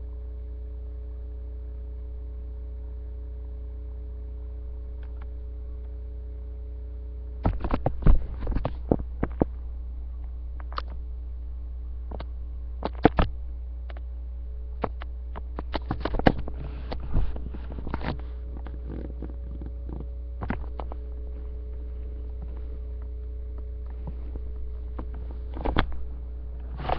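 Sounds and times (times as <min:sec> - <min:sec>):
low electrical hum: 0:00.0 - 0:26.9.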